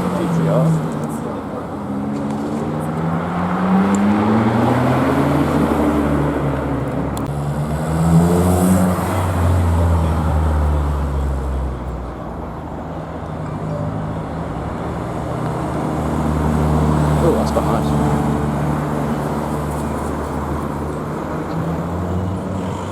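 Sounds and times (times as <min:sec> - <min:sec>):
vehicle engine accelerating: 0:00.0 - 0:12.1, 0:13.6 - 0:22.9.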